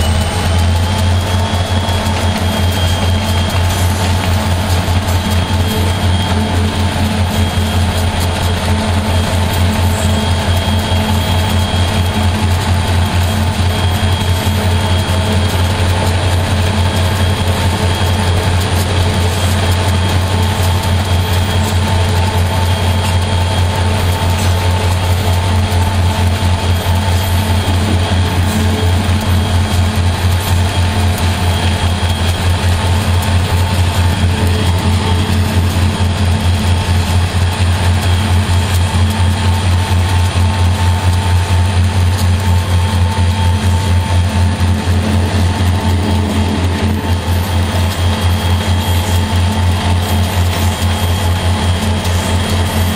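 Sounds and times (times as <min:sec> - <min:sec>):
continuous rushing noise: 0:00.0 - 0:52.9
locomotive engine drone: 0:00.0 - 0:52.9.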